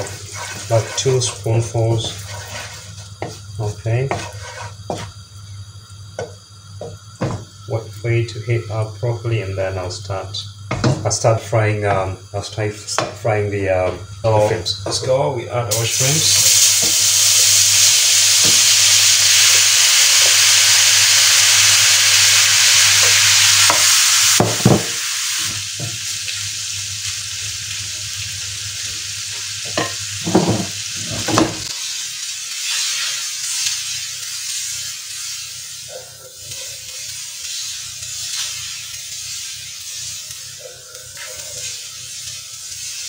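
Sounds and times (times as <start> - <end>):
shrimps sizzling in a frying pan: 0.0 - 43.0.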